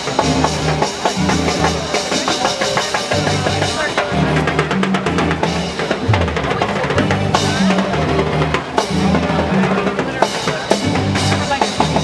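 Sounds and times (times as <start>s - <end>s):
salsa band playing: 0.0s - 12.0s
timbales and congas striking: 0.2s - 9.9s.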